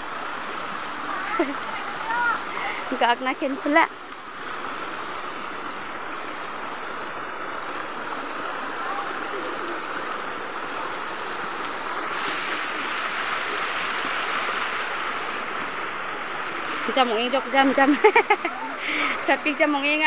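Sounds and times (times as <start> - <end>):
stream running over rocks: 0.0 - 20.0.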